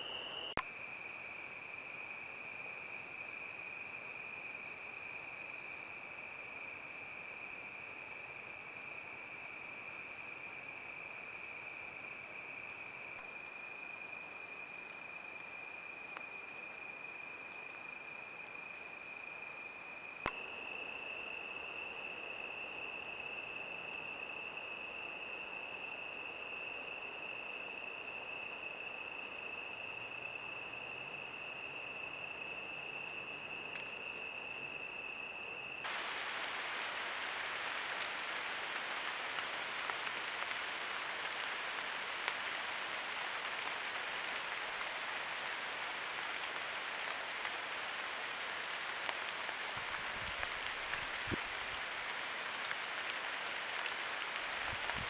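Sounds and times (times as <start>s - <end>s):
crickets trilling: 0.0s - 55.0s
outdoor hiss: 0.0s - 55.0s.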